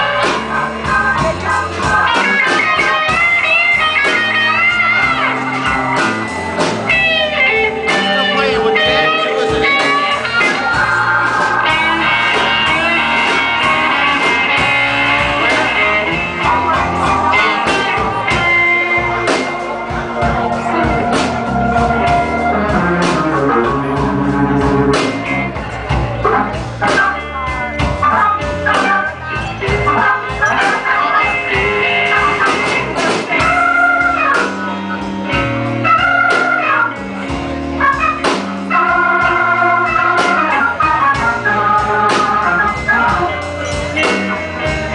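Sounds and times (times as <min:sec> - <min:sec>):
blues band playing: 0:00.0 - 0:44.9
electric guitar lines: 0:01.8 - 0:44.9.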